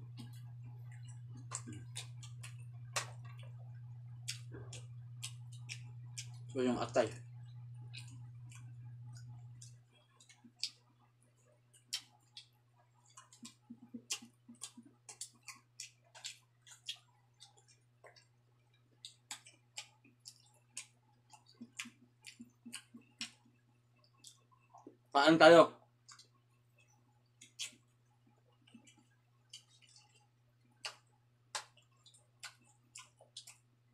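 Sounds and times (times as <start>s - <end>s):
person chewing with lip smacks: 0.0s - 6.5s, 7.4s - 10.9s, 11.7s - 25.0s, 26.0s - 33.7s
steady low hum: 0.0s - 33.9s.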